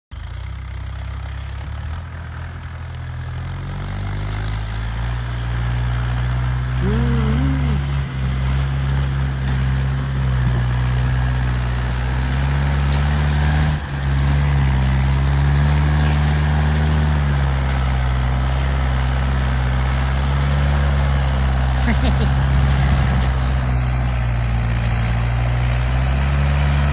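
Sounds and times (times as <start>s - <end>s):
tractor diesel engine running: 0.1s - 26.9s.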